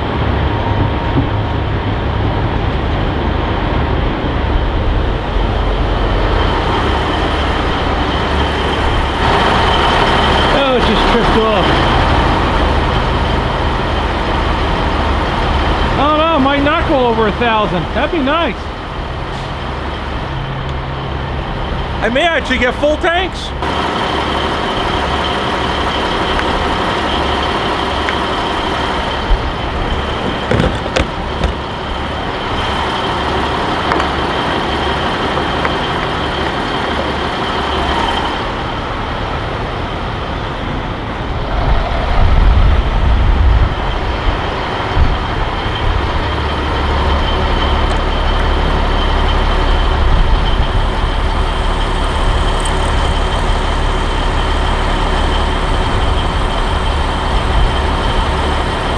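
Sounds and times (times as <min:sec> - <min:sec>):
heavy diesel trucks running: 0:00.0 - 0:58.9.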